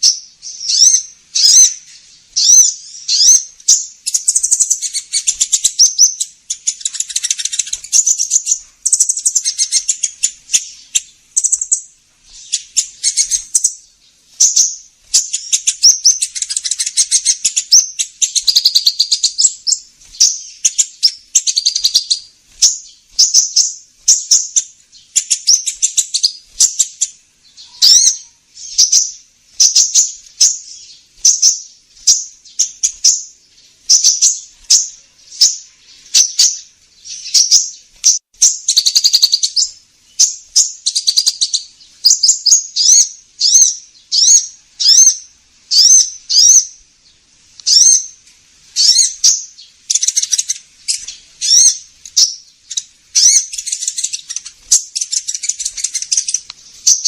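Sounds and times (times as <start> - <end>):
sunbird high chirps: 0.0 - 57.0.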